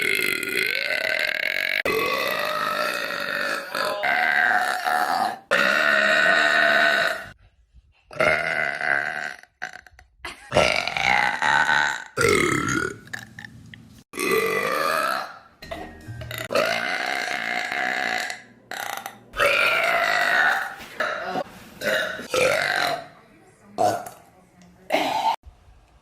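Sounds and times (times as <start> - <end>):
person burping loudly: 0.0 - 7.4, 8.1 - 13.5, 14.1 - 15.5, 16.2 - 23.1, 23.8 - 24.2, 24.9 - 25.4.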